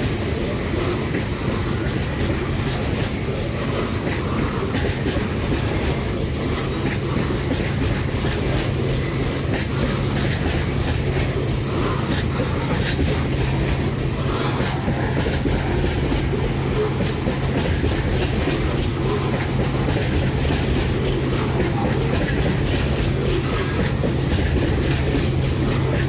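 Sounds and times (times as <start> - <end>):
diesel locomotive drone: 0.0 - 26.0
train wheels clicking over rail joints: 0.0 - 26.0.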